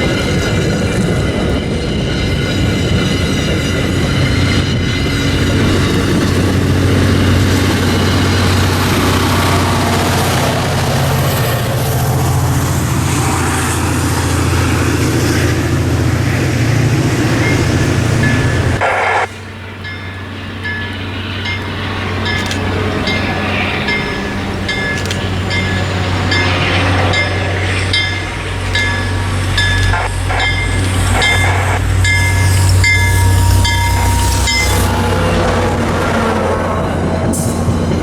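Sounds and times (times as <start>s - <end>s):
railway bell ringing: 0.0s - 38.0s
train engine droning: 0.0s - 38.0s.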